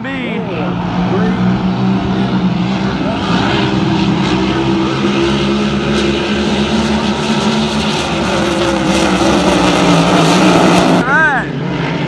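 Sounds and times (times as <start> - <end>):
race boat engines droning: 0.0 - 12.0.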